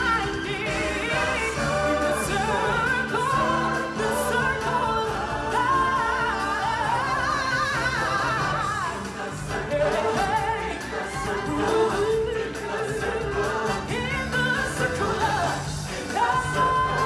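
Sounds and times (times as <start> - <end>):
loud amplified backing music: 0.0 - 17.0.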